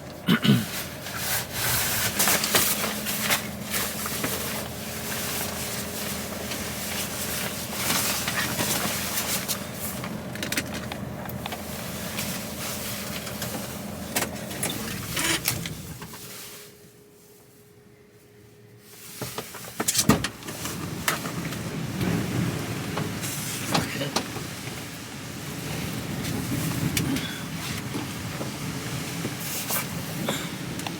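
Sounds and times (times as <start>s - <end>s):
lorry engine running: 0.0s - 30.9s.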